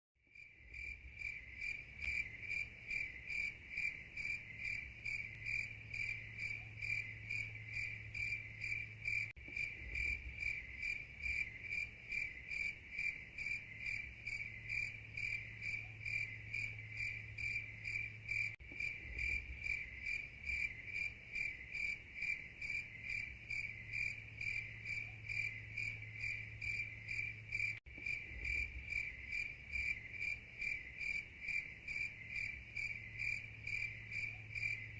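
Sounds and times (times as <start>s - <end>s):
cricket chirping: 0.2s - 34.9s.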